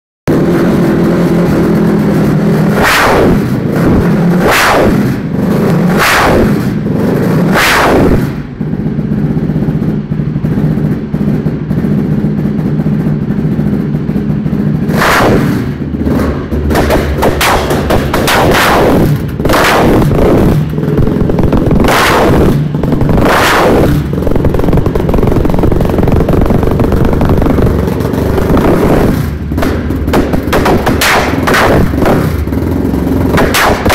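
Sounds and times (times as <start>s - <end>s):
engine revving: 0.3s - 33.9s
exhaust bangs: 0.3s - 33.9s.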